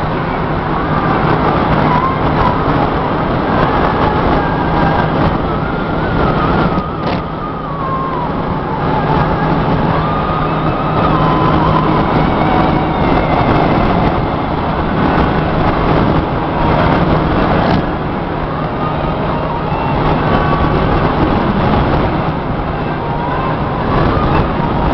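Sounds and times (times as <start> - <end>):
car road noise rumble: 0.0 - 24.9.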